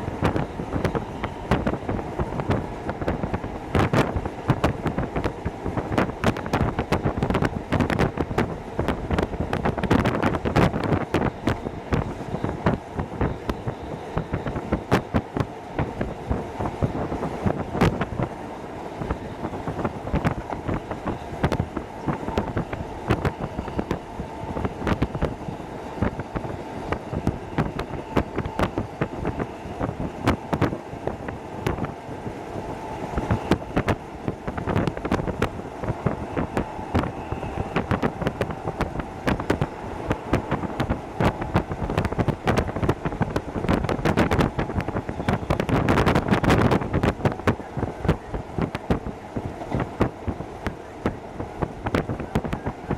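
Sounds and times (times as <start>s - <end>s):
faint steady whine: 0.0s - 52.9s
train wheels rumbling on rail: 0.0s - 52.9s.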